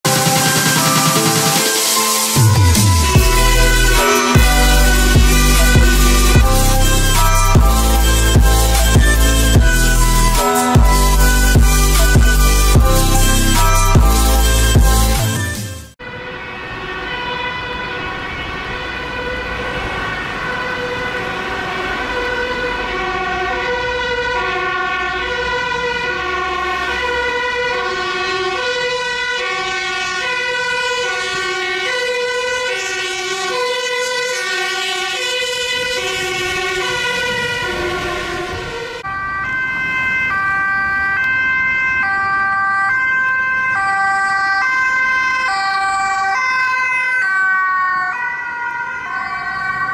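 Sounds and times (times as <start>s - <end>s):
ambulance two-tone siren: 0.0s - 49.9s
fire engine two-tone siren: 0.0s - 49.9s.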